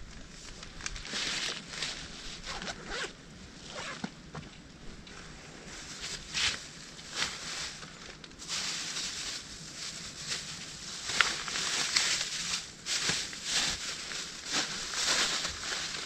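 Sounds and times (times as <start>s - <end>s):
leaves and brush crackling: 0.0s - 4.0s, 5.0s - 16.0s.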